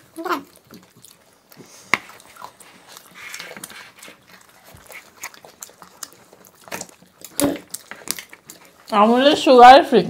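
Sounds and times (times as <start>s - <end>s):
biting and chewing: 0.0s - 9.6s.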